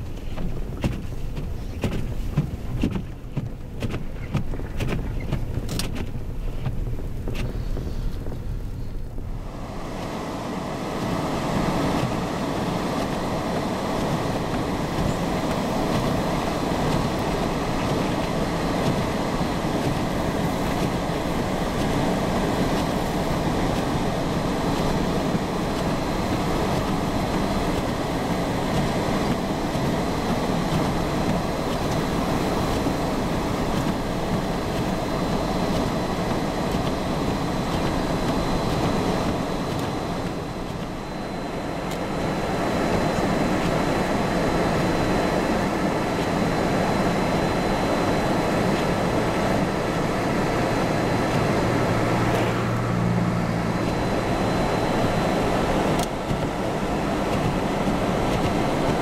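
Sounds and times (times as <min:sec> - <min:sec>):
blizzard wind blowing hard: 0:00.0 - 0:59.0.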